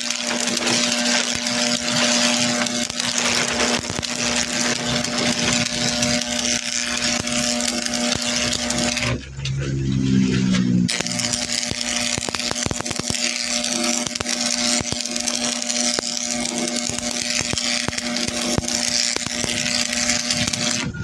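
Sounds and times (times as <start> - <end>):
hissing crackling with sharp clicks: 0.0 - 9.6, 10.9 - 21.0
machine hum: 0.0 - 21.0.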